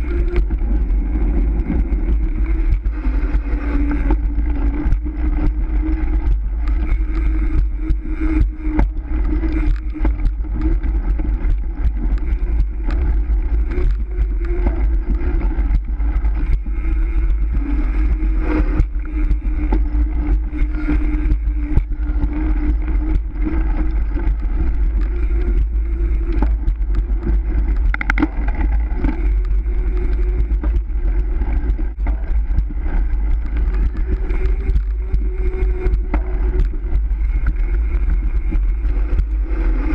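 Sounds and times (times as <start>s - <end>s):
bicycle rolling rumble: 0.0s - 39.9s
small rattles and clicks: 0.0s - 39.9s
wind rush: 0.0s - 39.9s.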